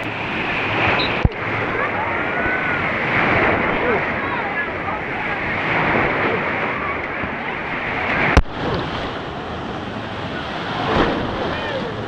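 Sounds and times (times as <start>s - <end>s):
churning splashing water: 0.0s - 12.0s
swimmers' voices and shouts: 0.0s - 12.0s.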